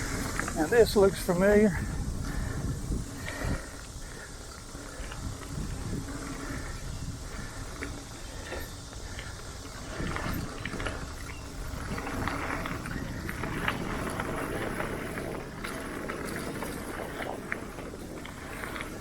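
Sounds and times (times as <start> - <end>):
bike rattling over bumps: 0.0 - 19.0
bike tyres rumbling on dirt: 0.0 - 19.0.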